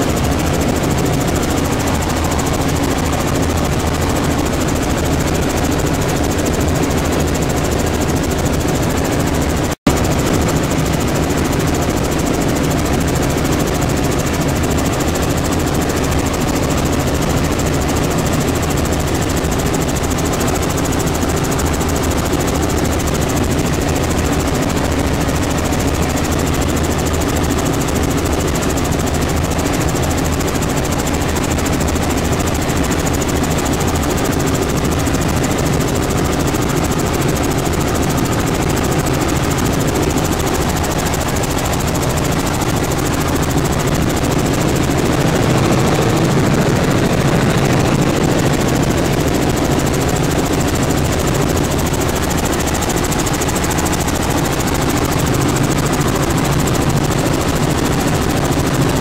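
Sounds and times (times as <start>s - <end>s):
helicopter drone from inside cabin: 0.0s - 59.0s.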